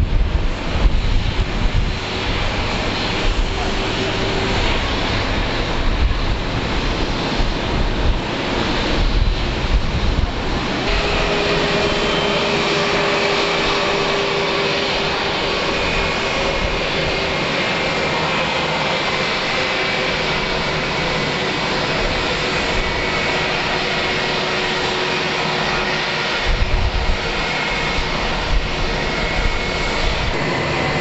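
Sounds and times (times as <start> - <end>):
jet engines whining hum: 0.0 - 31.0.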